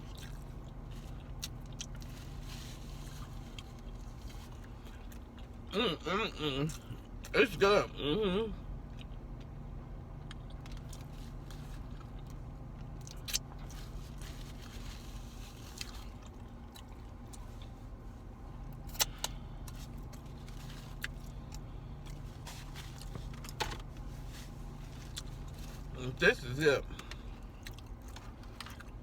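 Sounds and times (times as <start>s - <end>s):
person chewing burger: 0.0s - 7.3s, 8.6s - 18.0s, 18.6s - 26.0s, 26.8s - 29.0s
steady low hum: 0.0s - 29.0s.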